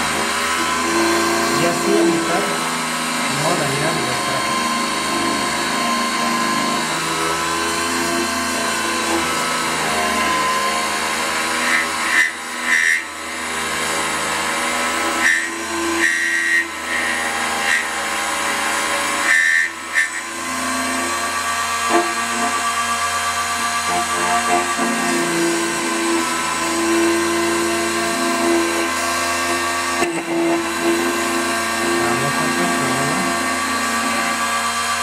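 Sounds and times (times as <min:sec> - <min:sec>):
key-cutting machine motor running: 0:00.0 - 0:35.0
cutter biting into metal: 0:03.2 - 0:13.5, 0:14.7 - 0:20.6, 0:21.7 - 0:26.5, 0:28.0 - 0:35.0.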